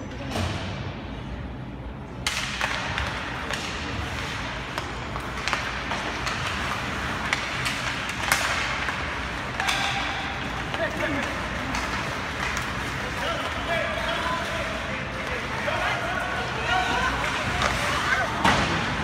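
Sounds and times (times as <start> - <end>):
hockey sticks and puck clacking: 2.2 - 19.0
skates scraping on ice: 2.6 - 19.0.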